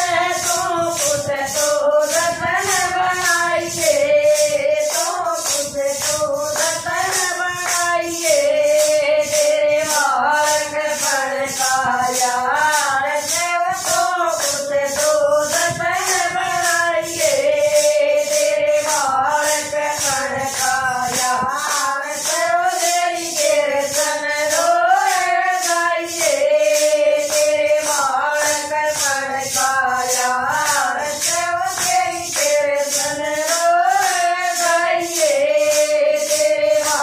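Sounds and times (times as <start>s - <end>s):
hand clapping: 0.0s - 37.0s
plastic rattles shaken: 0.0s - 37.0s
women singing together: 0.0s - 37.0s.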